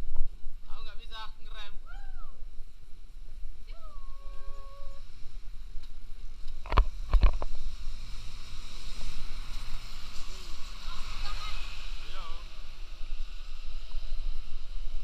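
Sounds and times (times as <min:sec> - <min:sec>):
bicycle road noise: 0:00.0 - 0:15.0
wind rumbling on microphone: 0:00.0 - 0:15.0
hiss: 0:02.4 - 0:15.0.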